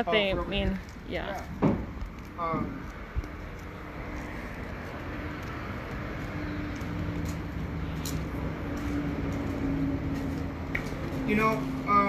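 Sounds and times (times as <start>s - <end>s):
outdoor rumble and hiss: 0.0s - 12.0s.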